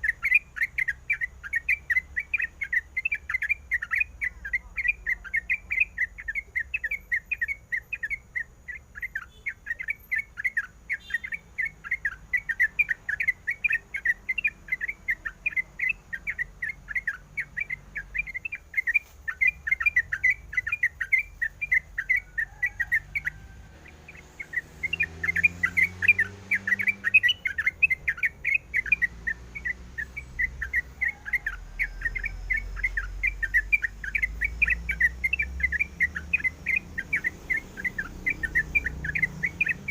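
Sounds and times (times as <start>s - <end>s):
bird singing fast short notes: 0.0s - 39.9s.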